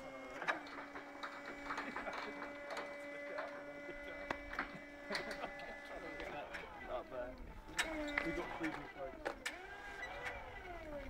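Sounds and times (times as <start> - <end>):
forklift motor whine: 0.0 - 11.0.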